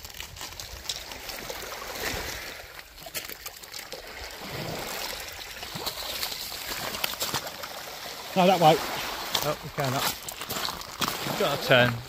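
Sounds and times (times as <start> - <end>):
sea water washing and trickling: 0.0 - 12.0.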